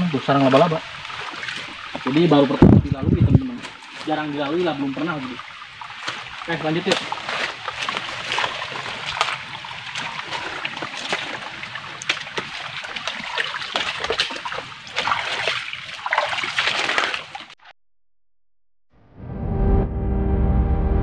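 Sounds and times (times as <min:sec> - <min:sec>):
footsteps splashing through water: 0:00.0 - 0:17.6
running water rushing: 0:00.0 - 0:17.6.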